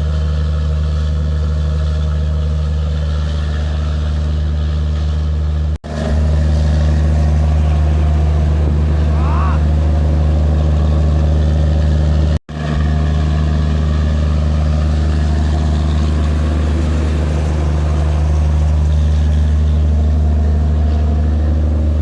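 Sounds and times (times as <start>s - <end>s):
diesel generator humming: 0.0s - 22.0s.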